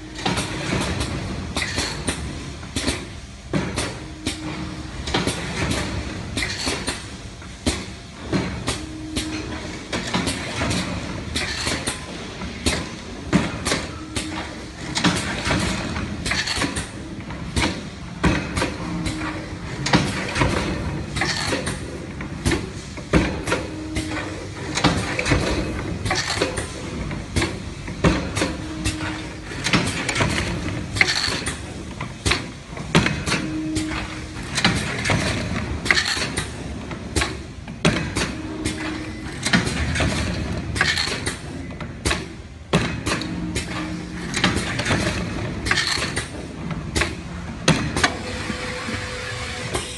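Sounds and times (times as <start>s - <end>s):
machine clattering clicks and knocks: 0.1s - 49.0s.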